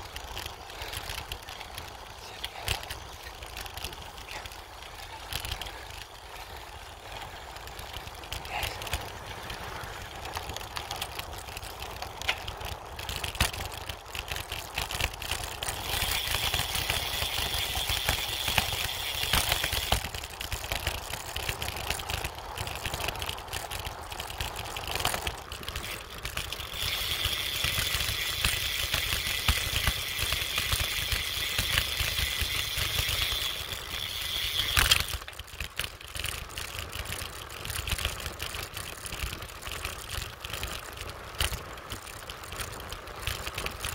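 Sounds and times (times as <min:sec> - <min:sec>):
bicycle knocking over ruts: 0:00.0 - 0:43.9
rattly tyre rumble: 0:00.0 - 0:43.9.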